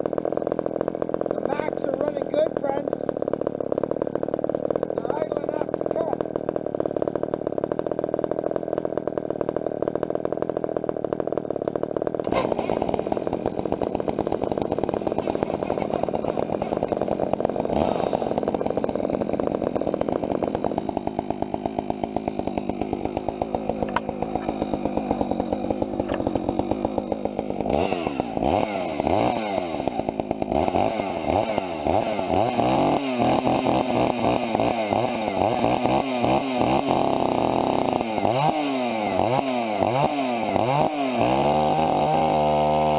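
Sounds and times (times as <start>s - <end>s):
two-stroke chainsaw running: 0.0s - 42.9s.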